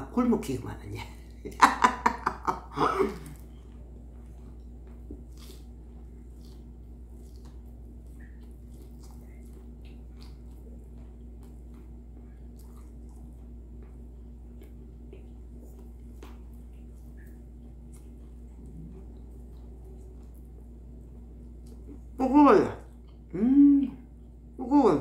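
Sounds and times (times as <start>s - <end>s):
steady low hum: 0.0s - 25.0s
closed-mouth chewing: 3.0s - 22.2s, 22.8s - 24.6s.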